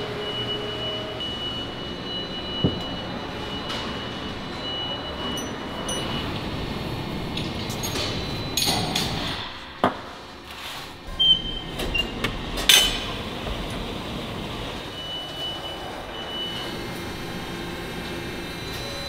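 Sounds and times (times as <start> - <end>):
factory background noise: 0.0 - 19.0.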